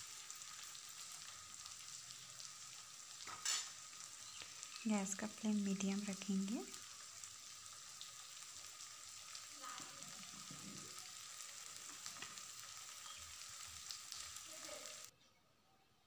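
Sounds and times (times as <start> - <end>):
vegetables frying in oil: 0.0 - 15.1.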